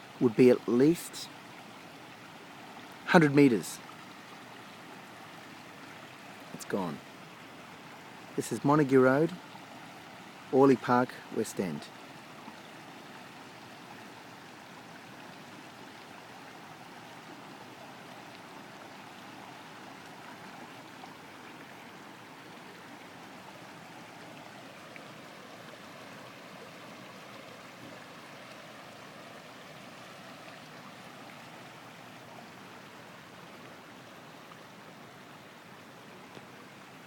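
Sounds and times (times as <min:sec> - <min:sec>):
rush of moving water: 0:00.0 - 0:37.0.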